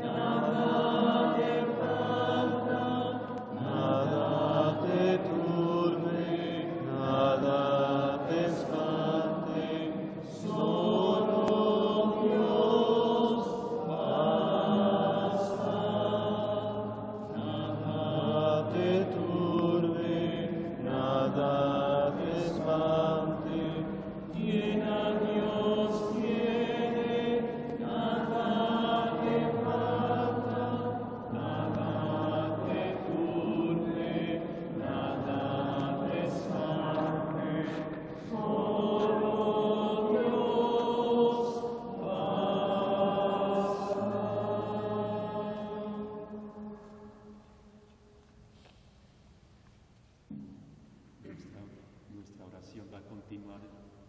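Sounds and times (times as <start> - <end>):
congregation singing a chant: 0.0 - 48.1.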